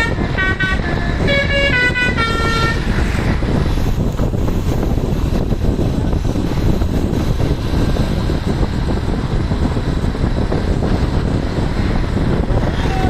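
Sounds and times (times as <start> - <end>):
heavy road traffic rumble: 0.0 - 13.0
wind buffeting microphone: 0.0 - 13.0.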